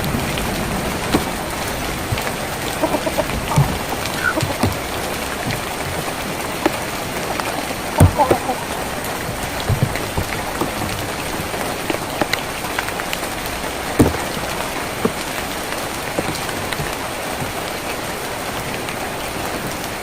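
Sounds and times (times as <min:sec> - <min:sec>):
rain on a tin roof: 0:00.0 - 0:20.0.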